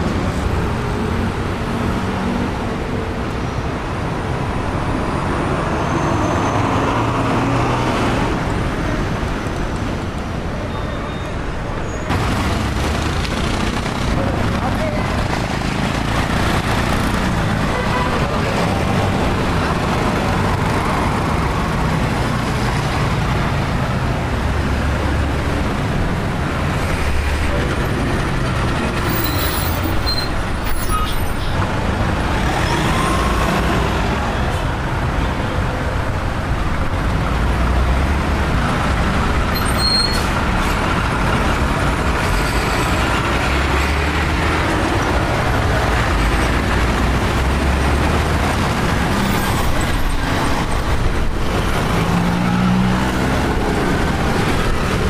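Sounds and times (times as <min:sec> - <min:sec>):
heavy traffic rumble: 0:00.0 - 0:55.0.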